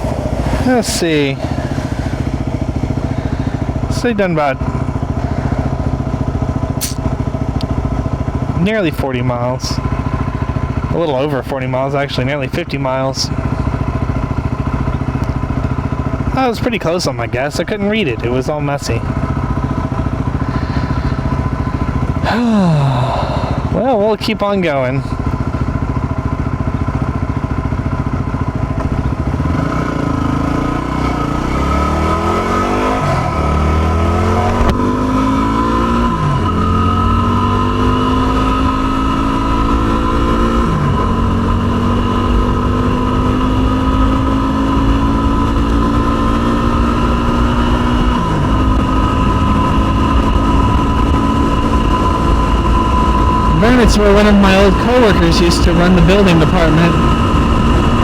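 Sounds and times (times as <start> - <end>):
motorcycle engine shifting up gears: 0.0 - 58.0.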